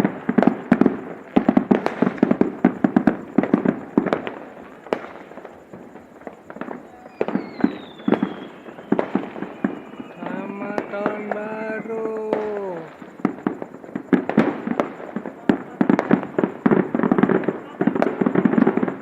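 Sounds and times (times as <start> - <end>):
falling firework whistle: 0.0 - 19.0
fireworks cracks and bangs: 0.0 - 19.0.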